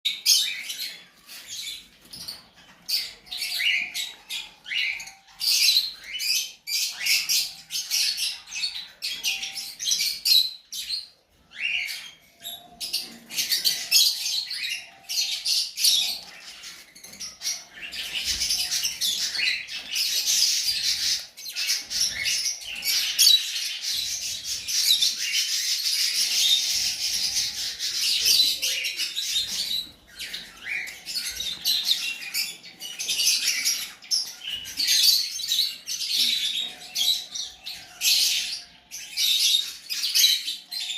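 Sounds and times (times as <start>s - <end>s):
cage birds chirping: 0.0s - 40.9s.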